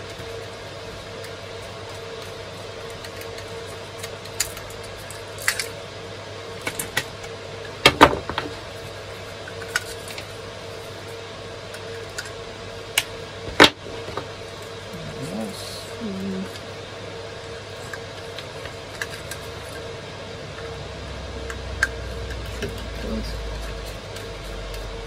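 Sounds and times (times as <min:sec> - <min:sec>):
computer servers humming: 0:00.0 - 0:25.0.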